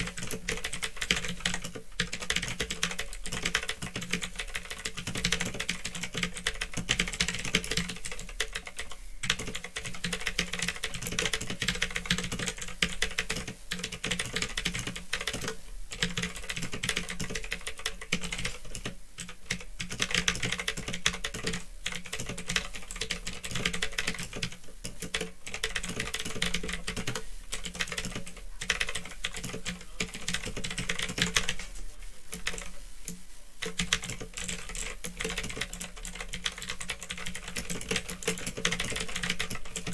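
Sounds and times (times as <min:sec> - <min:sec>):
typing on a mechanical keyboard: 0:00.0 - 0:31.7, 0:32.3 - 0:32.7, 0:33.6 - 0:39.9.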